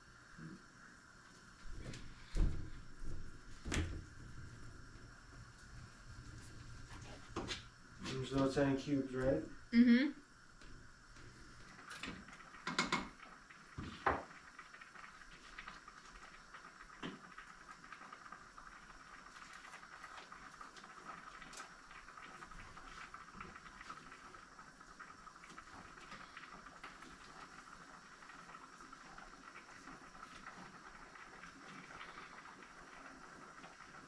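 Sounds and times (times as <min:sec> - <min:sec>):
faint water in kitchen: 0:00.0 - 0:34.0.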